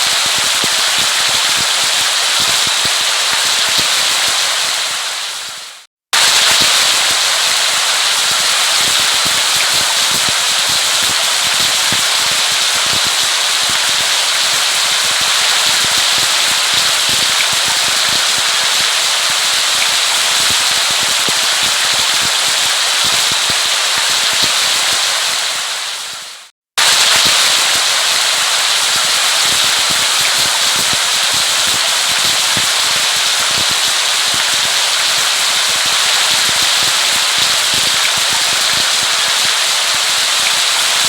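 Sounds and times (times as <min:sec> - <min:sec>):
raindrops crackling on hard surface: 0:00.0 - 0:25.4, 0:26.1 - 0:41.0
heavy rain: 0:00.0 - 0:41.0.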